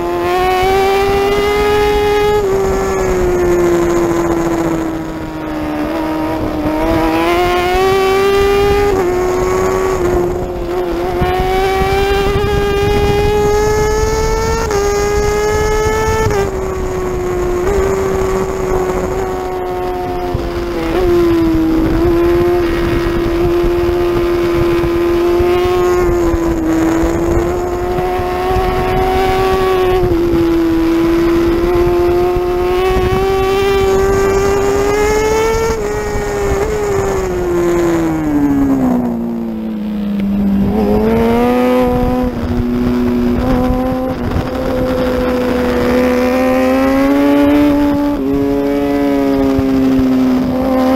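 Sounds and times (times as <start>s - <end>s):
motorcycle engine revving high: 0.0s - 50.9s
wind noise rushing: 0.0s - 50.9s.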